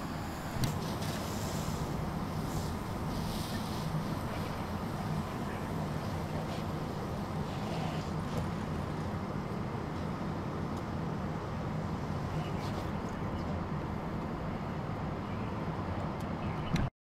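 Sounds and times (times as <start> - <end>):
diesel engine and pump running: 0.0 - 16.9.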